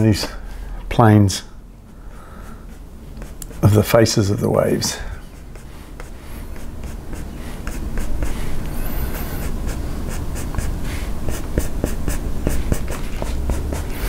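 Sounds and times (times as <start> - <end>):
paintbrush scratching on canvas: 2.4 - 14.0.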